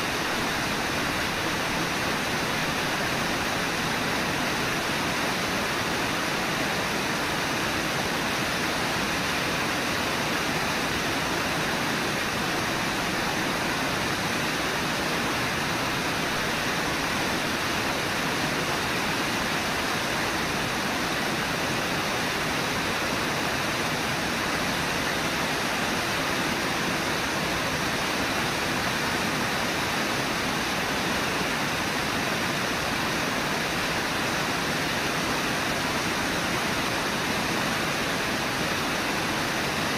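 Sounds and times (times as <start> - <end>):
white water rushing: 0.0 - 39.9.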